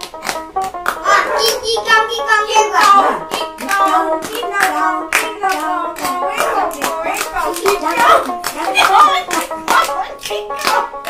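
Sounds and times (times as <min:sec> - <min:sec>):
rhythmic sharp claps: 0:00.0 - 0:11.0
person singing: 0:01.0 - 0:11.0.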